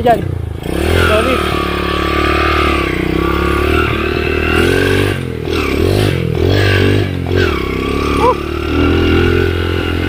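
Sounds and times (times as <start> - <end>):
motorcycle engine under throttle: 0.0 - 10.0.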